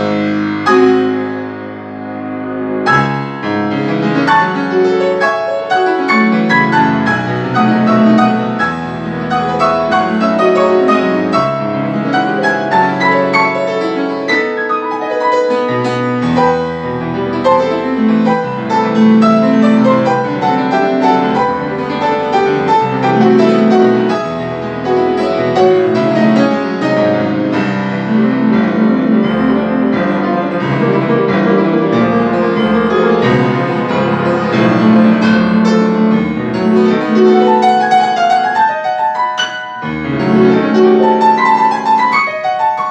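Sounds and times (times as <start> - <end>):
fast classical piano: 0.0 - 42.9.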